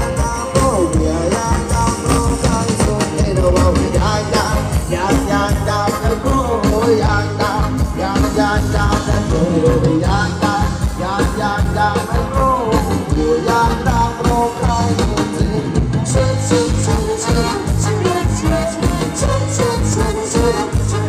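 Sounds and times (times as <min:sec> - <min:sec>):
bass: 0:00.0 - 0:21.0
person singing: 0:00.0 - 0:21.0
steady drum beat: 0:00.0 - 0:21.0.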